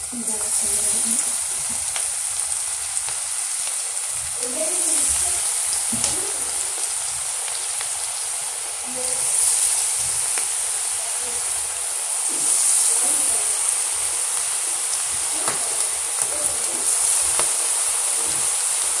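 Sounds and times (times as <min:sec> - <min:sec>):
batter sizzling in hot oil: 0:00.0 - 0:19.0.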